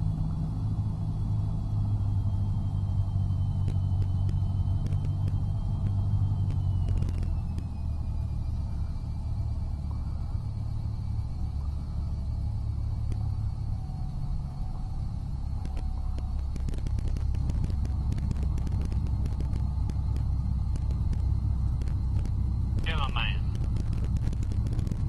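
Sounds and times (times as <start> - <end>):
aircraft engine and propeller: 0.0 - 25.0.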